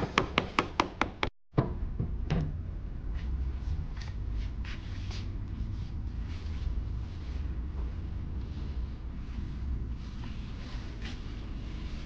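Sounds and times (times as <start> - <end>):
low steady hum: 1.6 - 12.0.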